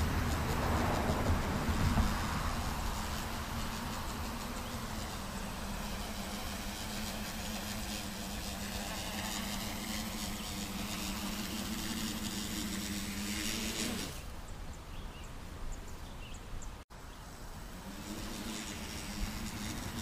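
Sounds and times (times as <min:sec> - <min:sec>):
quadcopter drone buzzing: 0:00.0 - 0:14.3, 0:17.2 - 0:20.0.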